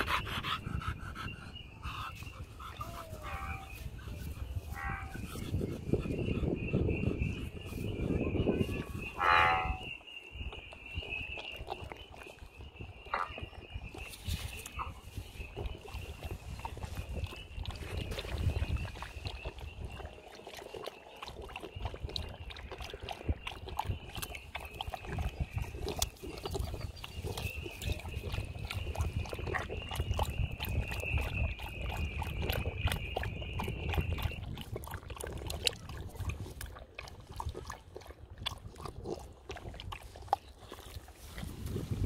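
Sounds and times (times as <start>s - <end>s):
dog lapping water: 0.0s - 42.0s.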